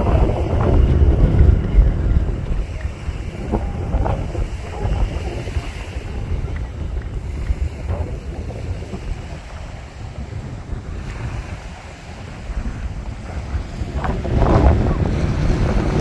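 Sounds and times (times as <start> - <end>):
sea waves on shore: 0.0 - 16.0
wind buffeting microphone: 0.0 - 16.0.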